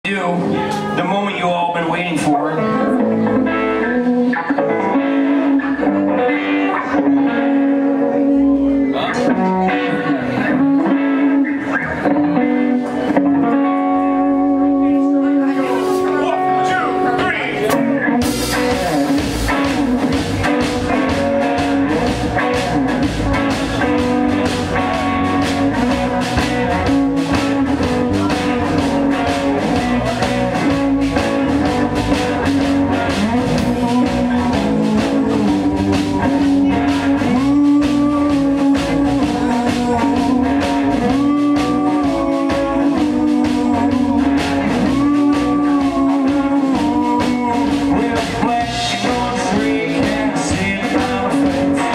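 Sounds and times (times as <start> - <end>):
live blues rock band: 0.0 - 51.9.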